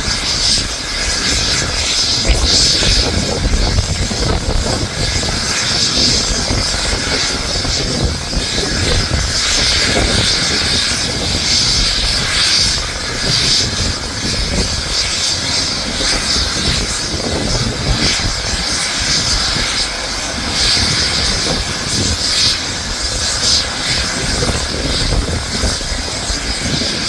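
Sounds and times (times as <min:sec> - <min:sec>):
helicopter rotor rumble: 0:00.0 - 0:27.0
helicopter turbine whine: 0:00.0 - 0:27.0.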